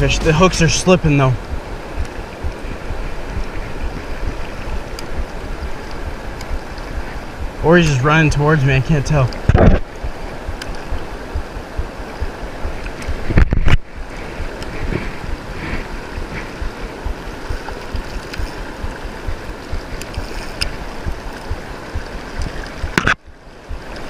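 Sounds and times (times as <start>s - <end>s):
river water rushing: 0.0s - 24.0s
wind buffeting microphone: 0.0s - 24.0s.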